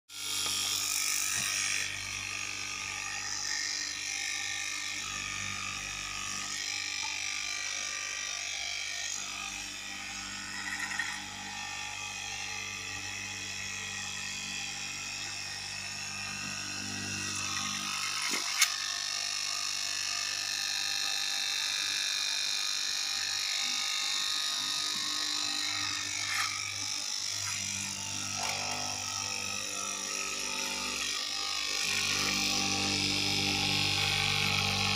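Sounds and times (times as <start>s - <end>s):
cloth cutting machine buzzing: 0.1s - 34.9s.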